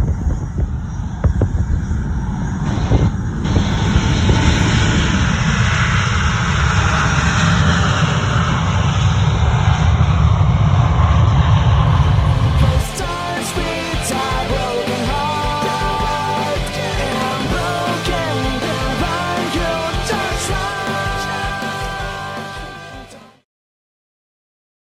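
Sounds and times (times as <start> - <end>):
jet engines roaring: 0.0 - 23.3.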